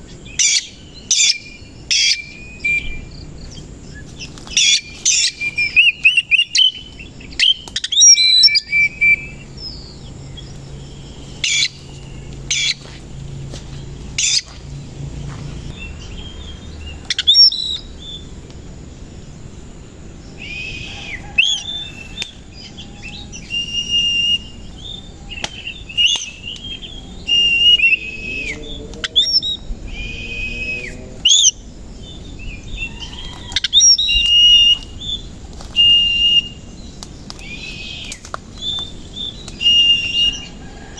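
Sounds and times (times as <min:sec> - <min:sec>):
bird singing whistled notes: 0:00.0 - 0:12.9, 0:15.5 - 0:18.3, 0:20.2 - 0:40.9.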